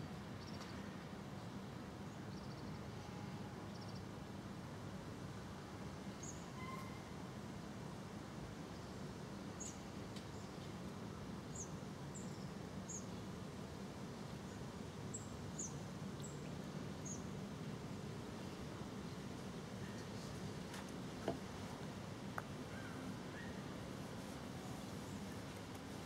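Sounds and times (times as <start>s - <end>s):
low outdoor background noise: 0.0s - 26.0s.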